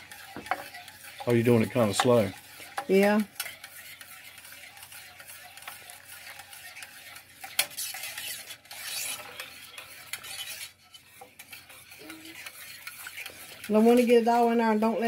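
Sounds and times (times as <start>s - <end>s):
whisk scraping and clinking saucepan: 0.0s - 15.0s.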